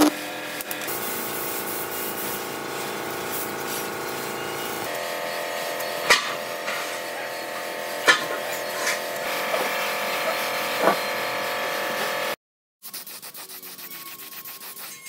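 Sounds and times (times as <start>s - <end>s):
machine motor whining: 0.0s - 12.4s.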